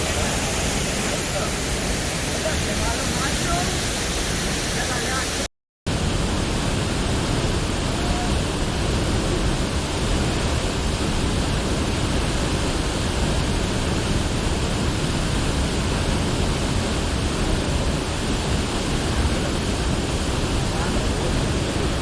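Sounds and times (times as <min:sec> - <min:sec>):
waterfall and river rushing: 0:00.0 - 0:22.0.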